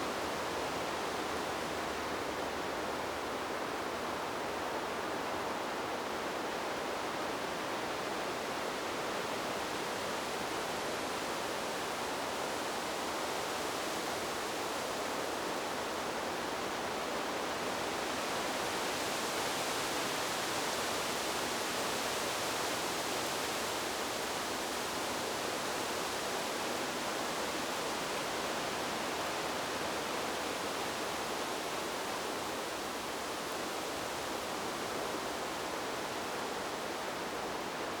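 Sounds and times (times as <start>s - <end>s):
wind rushing through trees: 0.0s - 38.0s.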